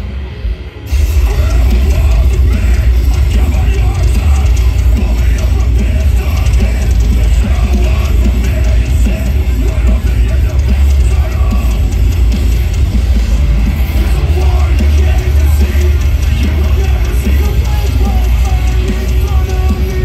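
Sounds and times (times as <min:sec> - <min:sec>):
metal band playing live: 0:00.0 - 0:20.0.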